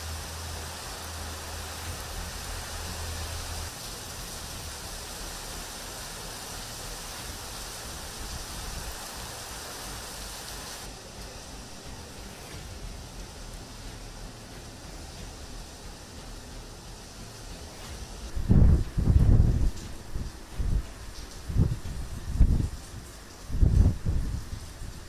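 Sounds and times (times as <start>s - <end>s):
heavy rain hiss: 0.0s - 25.0s.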